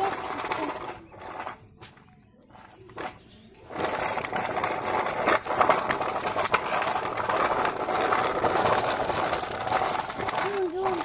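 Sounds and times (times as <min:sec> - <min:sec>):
toy truck wheels rattling on concrete: 0:00.0 - 0:11.0.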